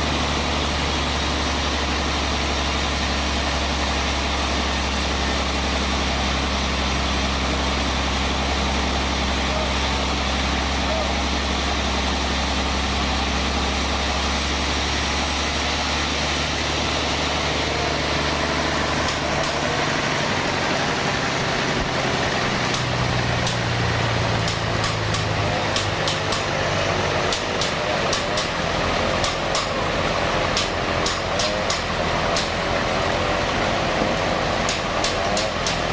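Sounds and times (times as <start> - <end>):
band saw machinery humming: 0.0 - 35.9.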